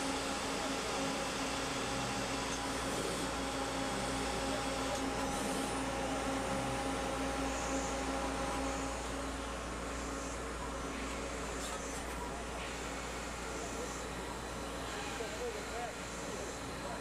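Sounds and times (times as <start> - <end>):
machine whine with low hum: 0.0 - 17.0.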